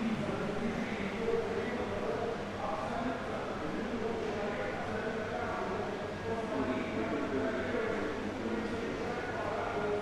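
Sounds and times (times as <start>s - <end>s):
murmur of many voices: 0.0s - 10.0s.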